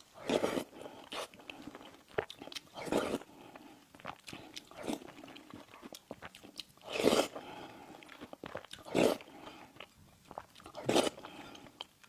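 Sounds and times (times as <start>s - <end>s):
chewing pastries: 0.0s - 12.0s.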